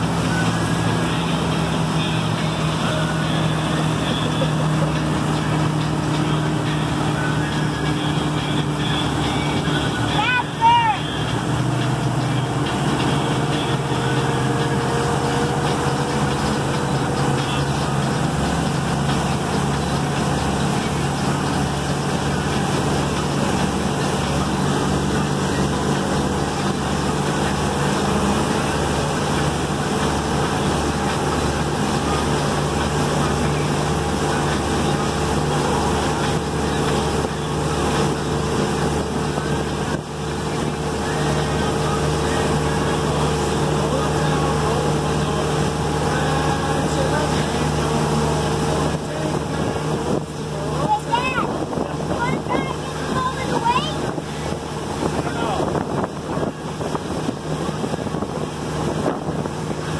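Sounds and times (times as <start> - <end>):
motorboat engine running: 0.0 - 59.9
water rushing in boat wake: 0.0 - 59.9.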